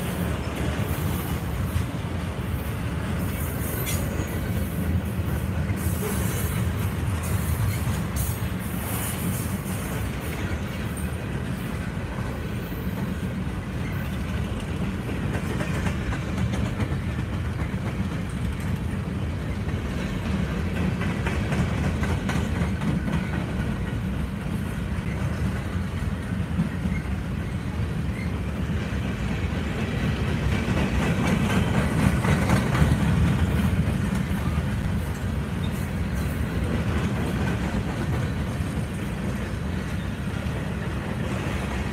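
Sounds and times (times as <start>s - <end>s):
freight train wheels rumbling: 0.0s - 41.9s.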